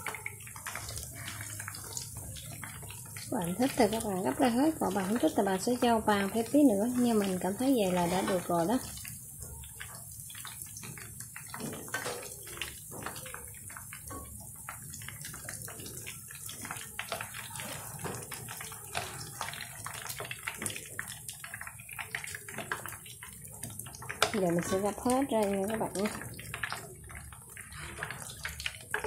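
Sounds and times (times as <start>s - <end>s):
spring rolls sizzling in oil: 0.0s - 29.0s.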